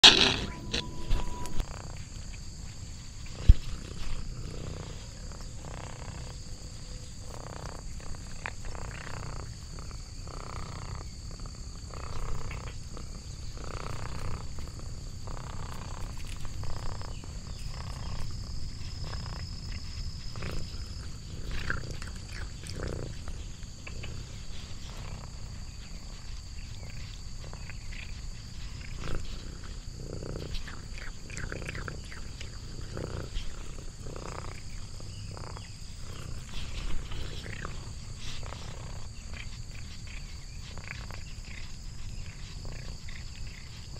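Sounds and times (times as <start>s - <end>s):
cat chewing and crunching: 0.0s - 43.9s.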